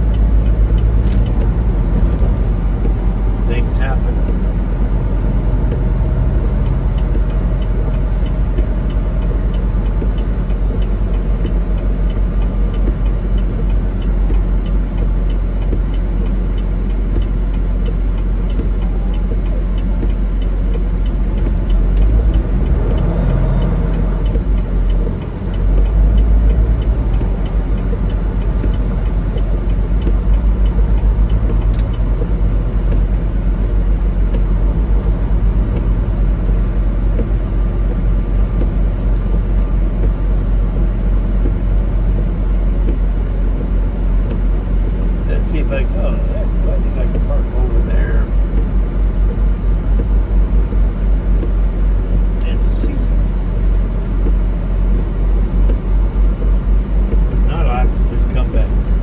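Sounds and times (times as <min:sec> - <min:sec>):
road rumble: 0:00.0 - 0:59.0
truck diesel engine running: 0:00.0 - 0:59.0.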